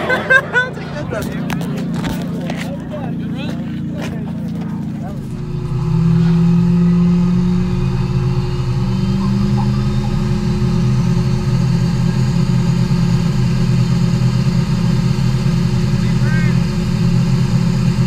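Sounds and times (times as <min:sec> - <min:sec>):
car engines idling: 0:00.0 - 0:18.0.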